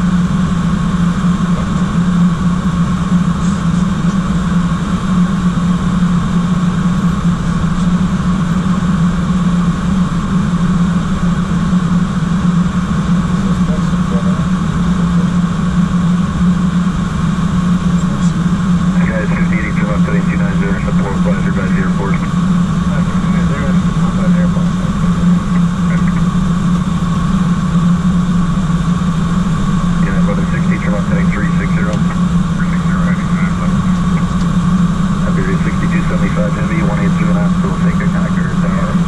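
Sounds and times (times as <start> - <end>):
cockpit airflow and engine drone: 0.0 - 39.0
low hum: 0.0 - 39.0.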